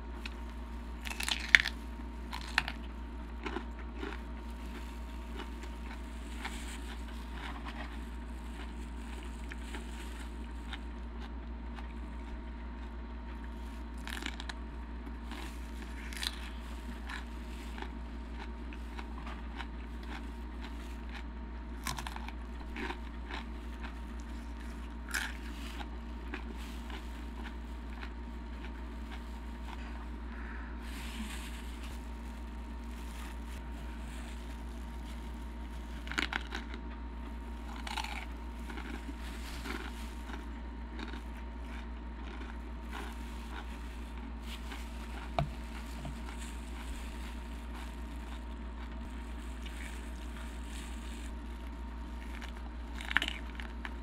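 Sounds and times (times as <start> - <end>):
chewing and crunching chips: 0.0 - 54.0
low steady hum: 0.0 - 54.0.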